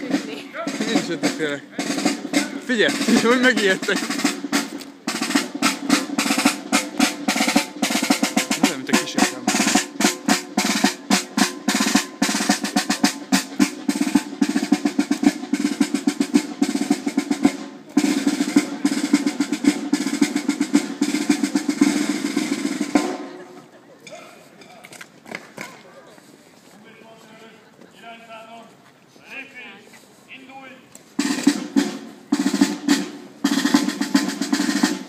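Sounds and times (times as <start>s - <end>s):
snare drum marching cadence: 0.0s - 24.2s, 30.3s - 35.0s.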